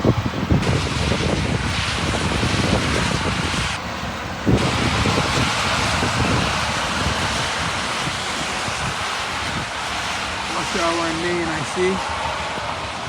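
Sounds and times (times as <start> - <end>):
heavy rain pouring: 0.0 - 13.0
wind buffeting microphone: 0.0 - 13.0.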